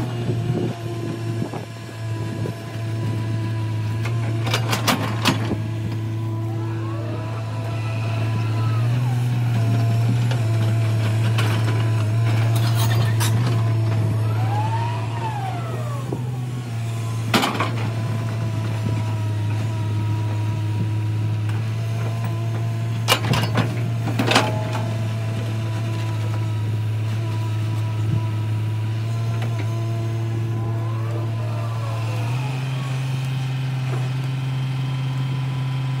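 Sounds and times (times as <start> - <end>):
diesel engine running: 0.0 - 36.0
hydraulic whine: 0.0 - 36.0.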